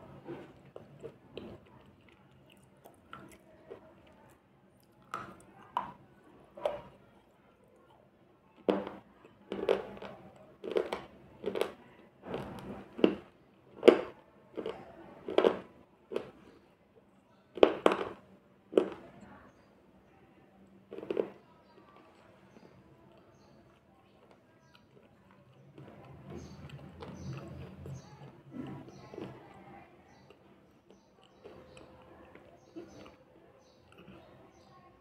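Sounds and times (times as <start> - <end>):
crunching and chewing: 0.0 - 19.6, 20.6 - 35.0.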